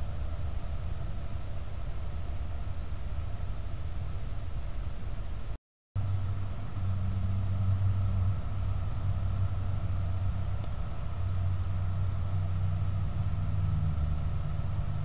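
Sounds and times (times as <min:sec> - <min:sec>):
faint high whine: 0:00.0 - 0:15.0
low mechanical hum: 0:00.0 - 0:15.0.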